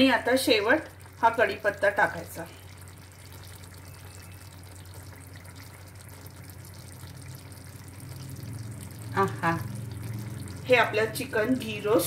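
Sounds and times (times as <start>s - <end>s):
gravy sizzling and bubbling: 0.0s - 12.0s
steady low hum: 0.0s - 12.0s.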